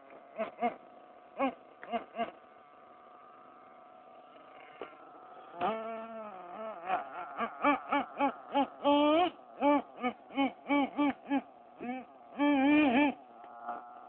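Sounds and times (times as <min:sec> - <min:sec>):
small nitro engine revving: 0:00.0 - 0:14.0.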